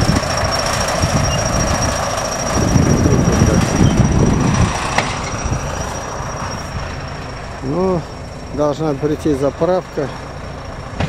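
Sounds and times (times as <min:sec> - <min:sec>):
bulldozer engine rumbling: 0:00.0 - 0:11.0
high whine: 0:00.0 - 0:11.0.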